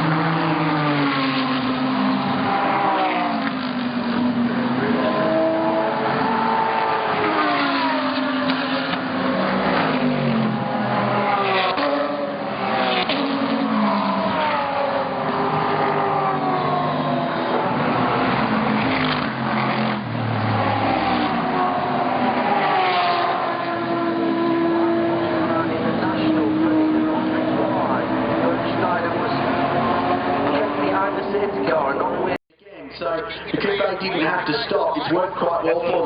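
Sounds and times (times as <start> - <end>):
race car engine accelerating: 0.0 - 32.4.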